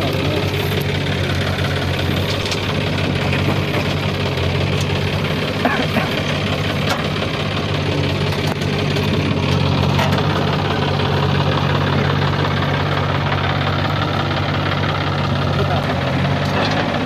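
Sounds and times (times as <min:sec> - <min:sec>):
backhoe loader engine running: 0:00.0 - 0:17.0
tractor diesel engine idling: 0:00.0 - 0:17.0.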